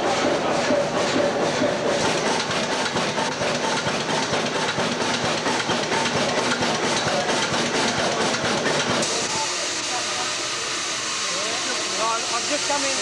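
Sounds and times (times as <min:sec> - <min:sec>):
engine rhythmic clatter: 0:00.0 - 0:13.0.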